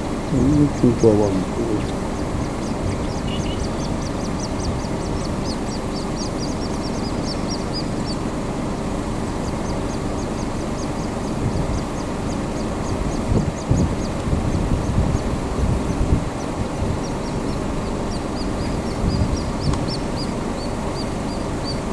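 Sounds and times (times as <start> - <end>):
grebes peeping: 0.0 - 21.9
steady low rumble: 0.0 - 21.9.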